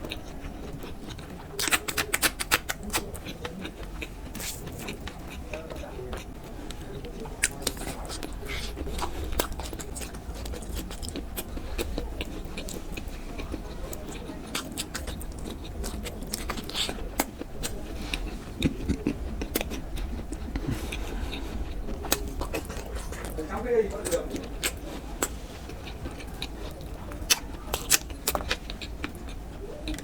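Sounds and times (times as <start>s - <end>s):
person chewing wetly: 0.0s - 30.0s
steady low hum: 0.0s - 30.0s.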